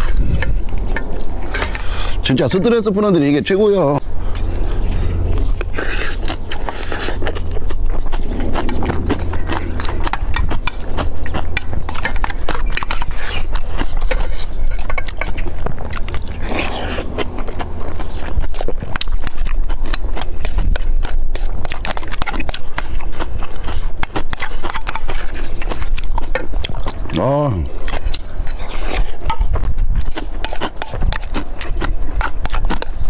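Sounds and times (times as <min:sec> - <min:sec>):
man chewing and crunching food: 0:00.0 - 0:33.0.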